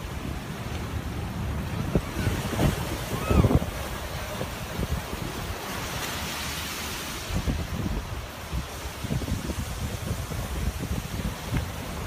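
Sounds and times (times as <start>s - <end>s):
surf on rocky beach: 0.0s - 12.0s
wind buffeting microphone: 0.0s - 12.0s.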